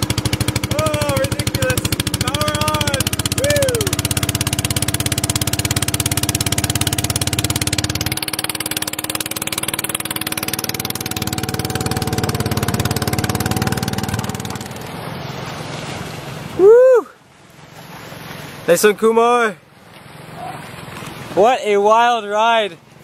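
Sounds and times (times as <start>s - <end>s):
small boat motor running: 0.0s - 16.6s, 19.5s - 23.0s.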